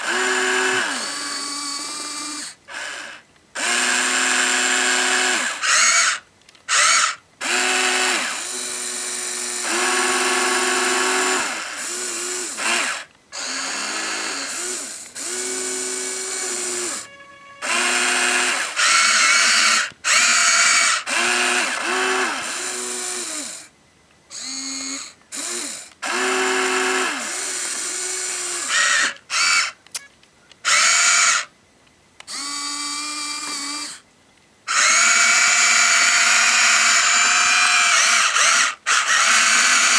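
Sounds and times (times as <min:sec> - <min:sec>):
small electric motors whining: 0:00.0 - 0:23.7, 0:24.3 - 0:29.8, 0:30.6 - 0:31.5, 0:32.2 - 0:34.0, 0:34.7 - 0:39.9.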